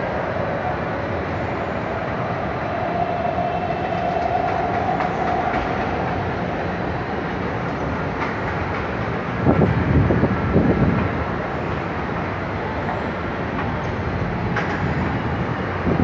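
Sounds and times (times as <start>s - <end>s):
metro station rumble: 0.0s - 16.0s.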